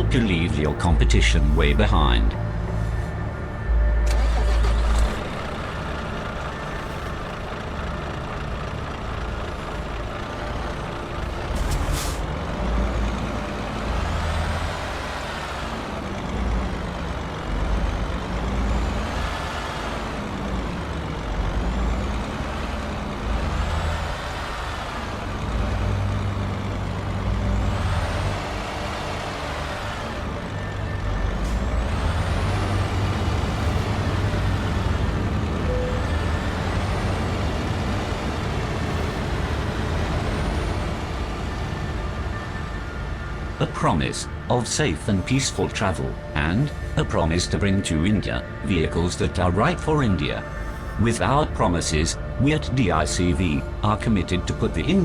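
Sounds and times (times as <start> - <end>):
heavy vehicle engine running: 0.0 - 55.0.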